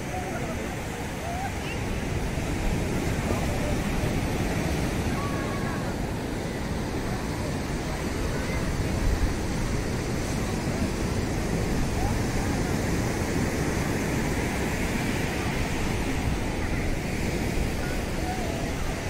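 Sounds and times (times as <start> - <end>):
faint voices of people: 0.0 - 19.0
surf breaking on beach: 0.0 - 19.0
wind rumbling on microphone: 0.0 - 19.0.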